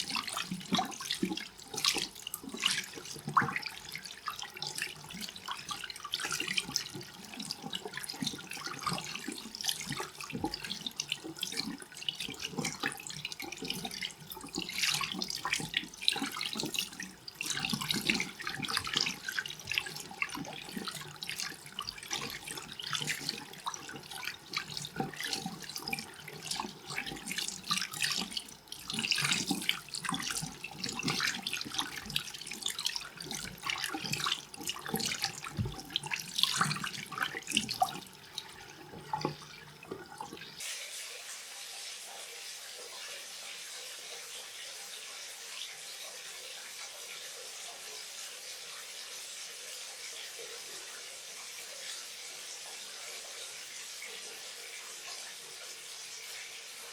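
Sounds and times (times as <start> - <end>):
water running and splashing: 0.0 - 56.9.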